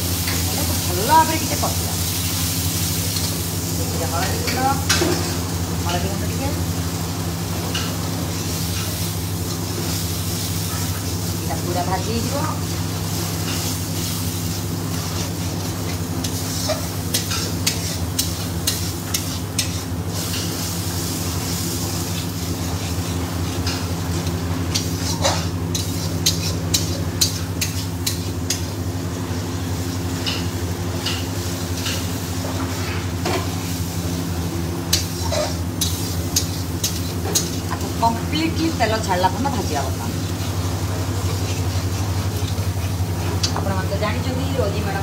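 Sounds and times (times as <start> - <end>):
paste sizzling in oil: 0.0 - 45.0.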